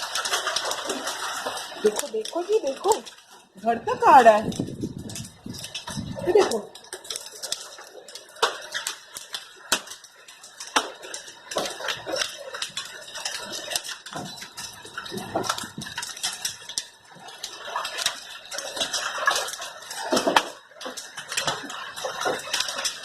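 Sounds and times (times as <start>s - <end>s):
hail striking hard surfaces: 0.0s - 23.0s.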